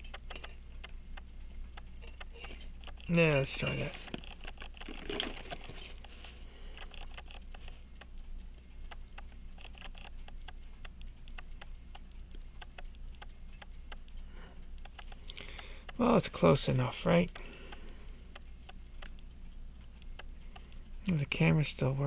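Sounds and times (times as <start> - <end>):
light metal clicks: 0.0 - 22.0
watch ticking: 0.0 - 22.0.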